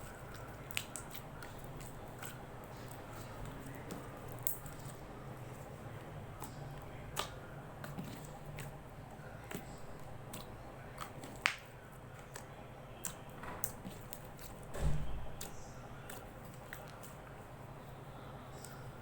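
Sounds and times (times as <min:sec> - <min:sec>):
slime squelching with wet pops: 0:00.0 - 0:17.2.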